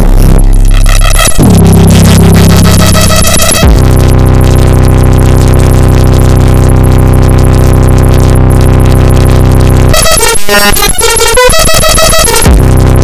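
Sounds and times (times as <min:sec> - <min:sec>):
harsh synthesizer drone: 0:00.0 - 0:13.0.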